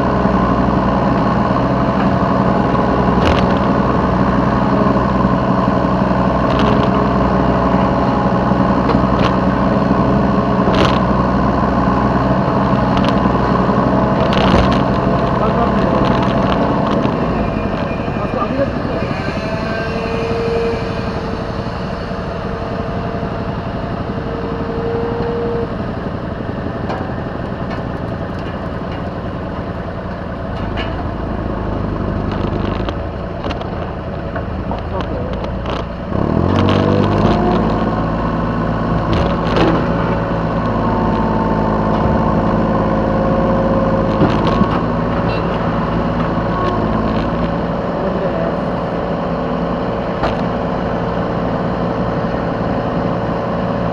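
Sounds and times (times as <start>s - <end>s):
excavator diesel engine revving: 0.0s - 53.9s.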